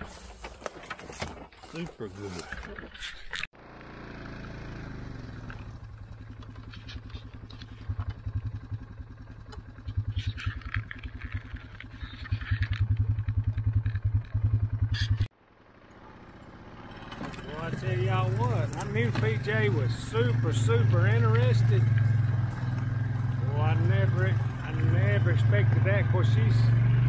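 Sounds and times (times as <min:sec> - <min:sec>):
atv engine running: 0:03.6 - 0:27.0.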